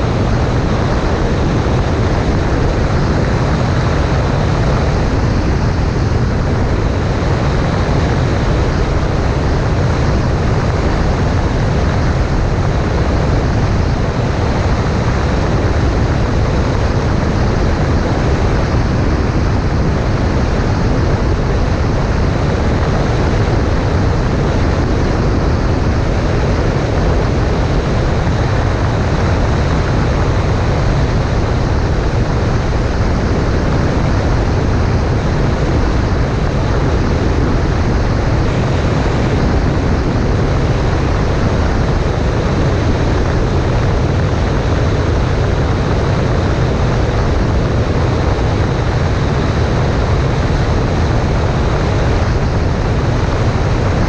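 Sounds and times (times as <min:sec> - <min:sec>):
light plane engine and propeller: 0:00.0 - 0:54.0.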